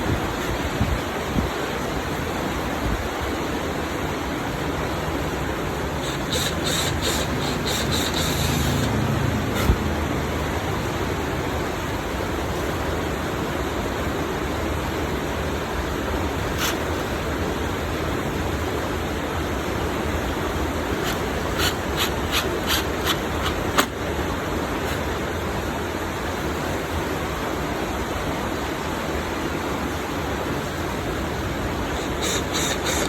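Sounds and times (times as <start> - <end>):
steady hiss: 0.0 - 9.9, 11.0 - 33.0.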